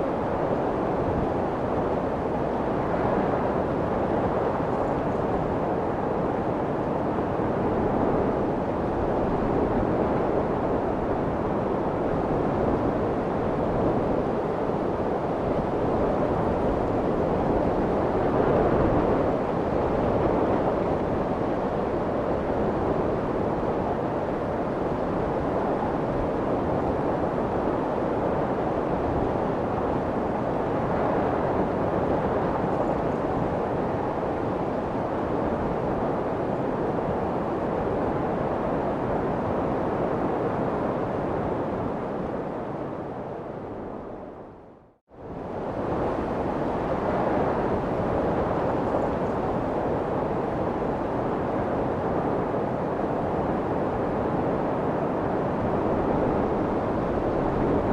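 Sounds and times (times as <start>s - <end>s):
muffled white noise: 0.0s - 57.9s.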